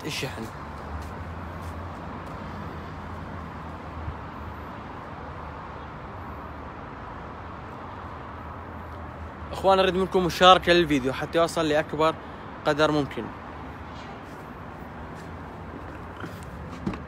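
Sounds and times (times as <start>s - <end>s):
outdoor background hum and hiss: 0.0s - 17.0s.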